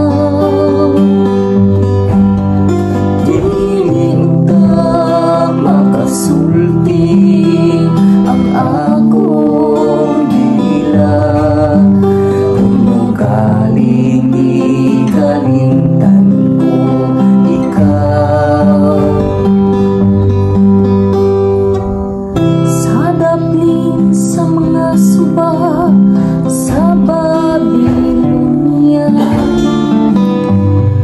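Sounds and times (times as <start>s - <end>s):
woman singing: 0.0s - 2.0s, 3.1s - 20.0s, 22.7s - 31.0s
acoustic guitar strumming: 0.0s - 31.0s.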